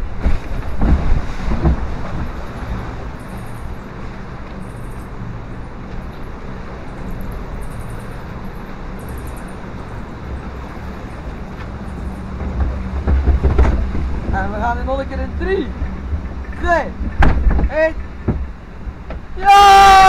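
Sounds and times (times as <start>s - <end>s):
boat rumbling along water flume: 0.0s - 20.0s
low machine hum: 0.0s - 20.0s.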